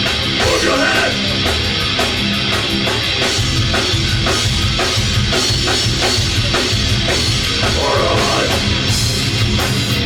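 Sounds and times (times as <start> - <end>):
distorted electric guitar: 0.0 - 10.0
drum kit beat: 0.0 - 10.0
live rock band playing: 0.0 - 10.0.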